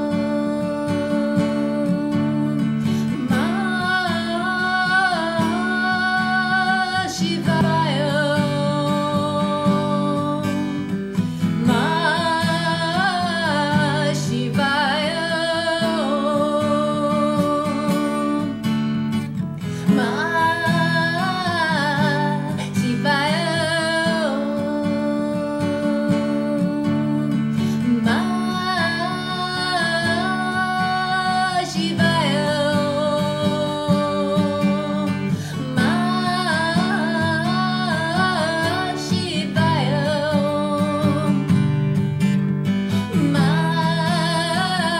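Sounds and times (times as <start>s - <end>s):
strummed acoustic guitar: 0.0s - 44.9s
woman singing: 0.0s - 44.9s.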